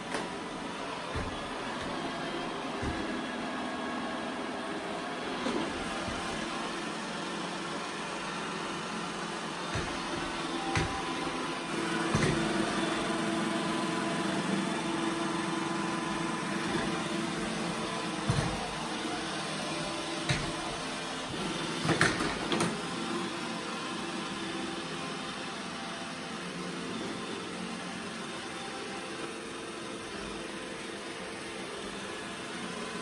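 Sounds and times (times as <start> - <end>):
robot vacuum motor hum: 0.1 - 33.0.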